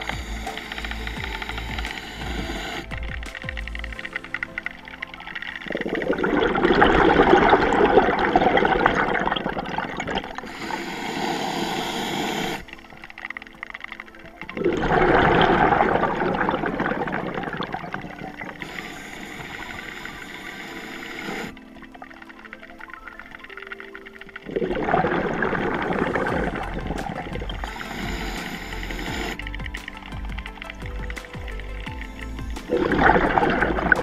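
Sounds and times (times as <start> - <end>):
underwater exhaust bubbles gurgling: 0.0 - 34.0.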